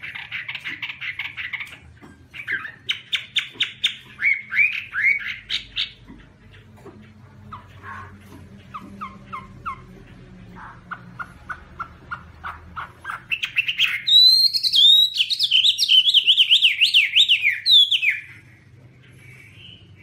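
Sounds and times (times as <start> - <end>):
bird singing: 0.0 - 20.0.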